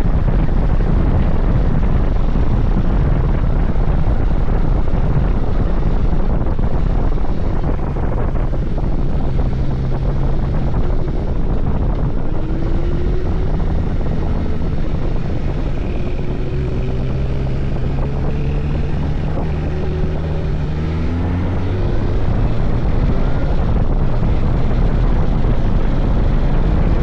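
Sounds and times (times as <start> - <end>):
motorcycle engine running: 0.0 - 27.0
rushing wind noise: 0.0 - 27.0.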